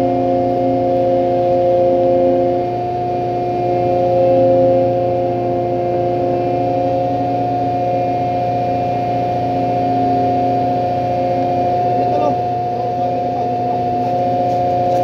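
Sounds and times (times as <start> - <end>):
steady whine: 0.0 - 15.0.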